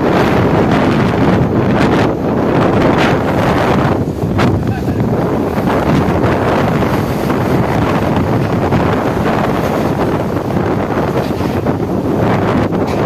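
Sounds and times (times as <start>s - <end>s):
storm wind blowing hard: 0.0s - 13.0s.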